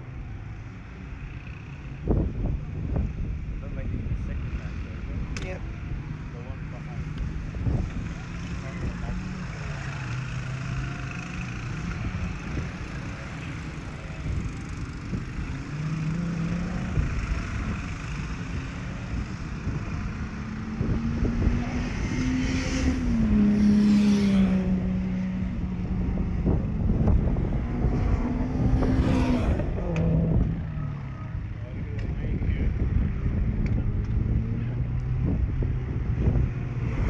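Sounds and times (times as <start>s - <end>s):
race car engines revving: 0.0s - 37.0s.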